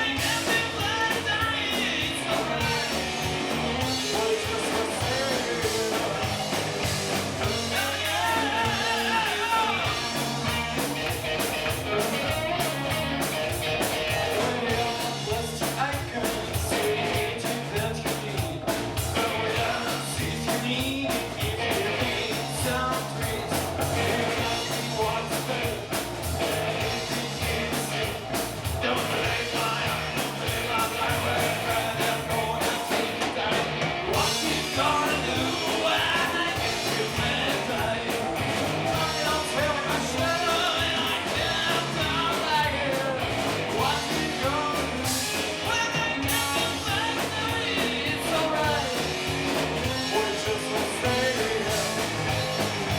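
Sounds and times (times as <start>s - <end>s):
person singing: 0.0s - 10.8s, 13.9s - 52.7s
rock band playing live: 0.0s - 52.9s.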